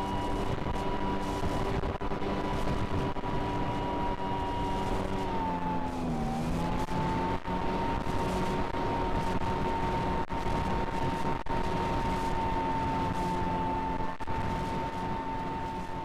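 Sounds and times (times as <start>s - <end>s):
aircraft propeller engine whining: 0.0s - 16.0s.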